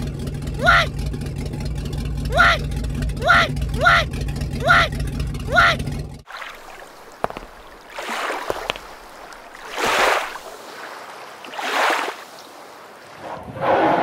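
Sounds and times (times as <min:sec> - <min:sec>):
water splashing: 0:00.0 - 0:13.4.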